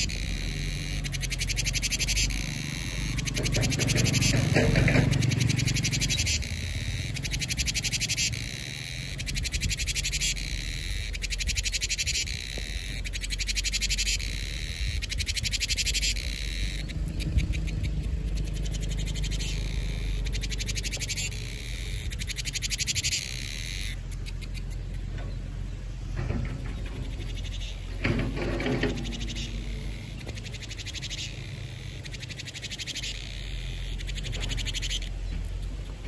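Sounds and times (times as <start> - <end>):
cicadas buzzing: 0.0 - 36.0
steady low rumble: 0.0 - 36.0.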